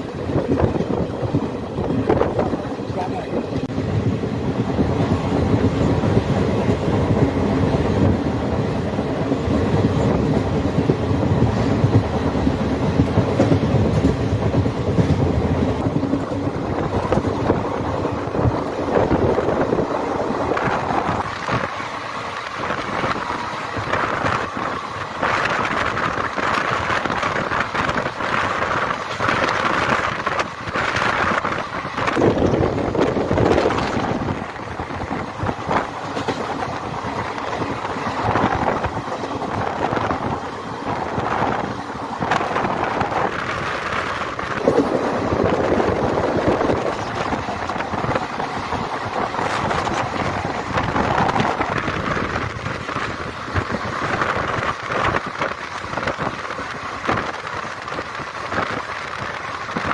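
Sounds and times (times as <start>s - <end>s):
train knocks and clatter: 0.0s - 59.9s
train wheels rumbling on track: 0.0s - 59.9s.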